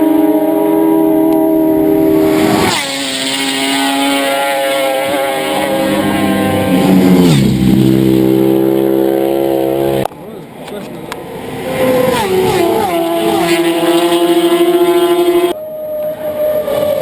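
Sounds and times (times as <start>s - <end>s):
racing motorcycles passing: 0.0s - 17.0s.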